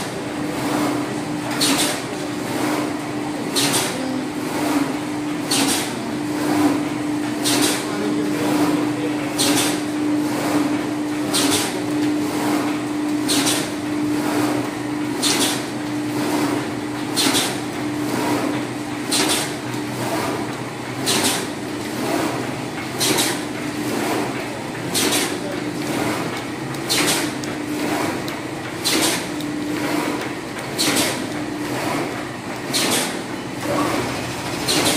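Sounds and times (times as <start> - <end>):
machine motor hum: 0.0 - 34.9.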